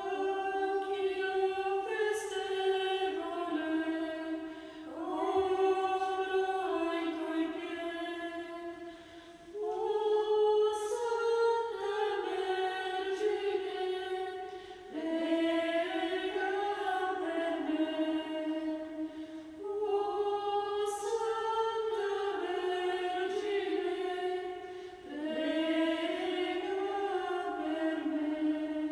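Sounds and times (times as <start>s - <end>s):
choir singing slow melody: 0.0s - 28.9s.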